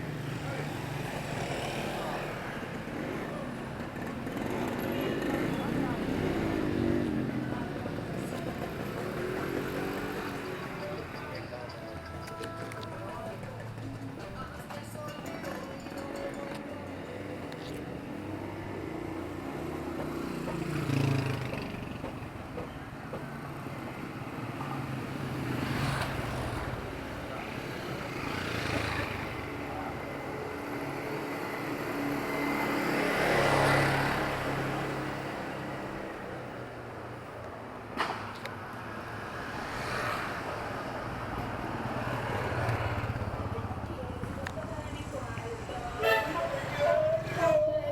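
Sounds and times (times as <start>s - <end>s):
vehicles passing: 0.0s - 47.9s.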